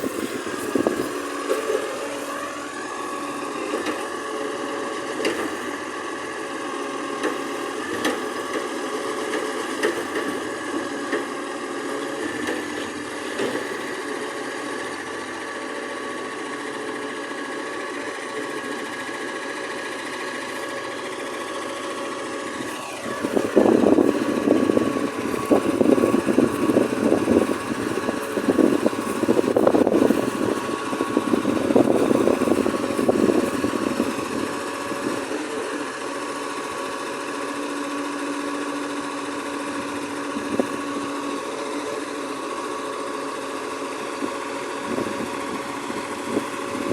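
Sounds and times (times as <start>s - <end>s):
garbage truck engine running: 0.0s - 46.9s.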